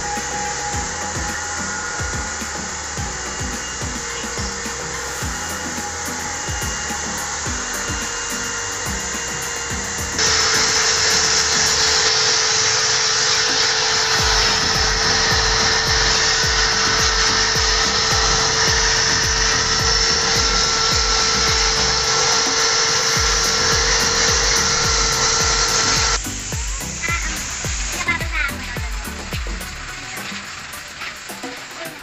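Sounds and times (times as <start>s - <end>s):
background music with beat: 0.0s - 32.0s
vacuum cleaner whining: 0.0s - 32.0s.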